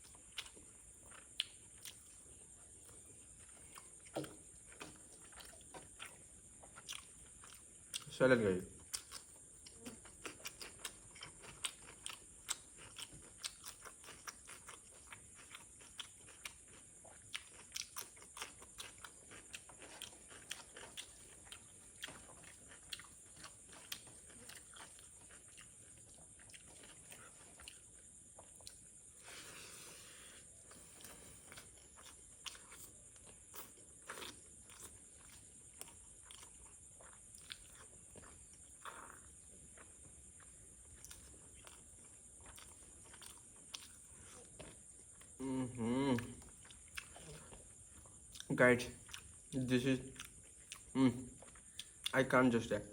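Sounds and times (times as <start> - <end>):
person chewing crunchy food: 0.0 - 8.1, 8.8 - 52.2.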